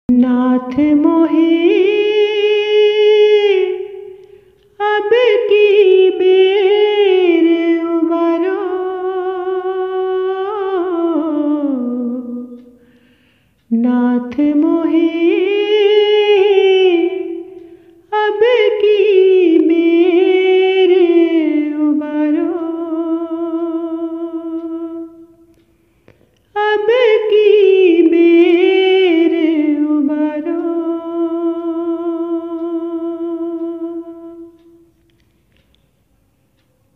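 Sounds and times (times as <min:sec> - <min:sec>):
person singing unaccompanied: 0:00.1 - 0:35.3.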